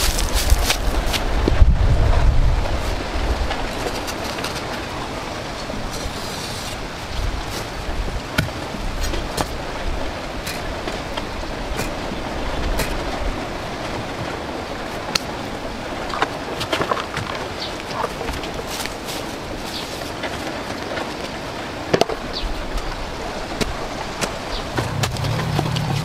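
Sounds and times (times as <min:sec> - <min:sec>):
wind noise on microphone: 0:00.0 - 0:21.4.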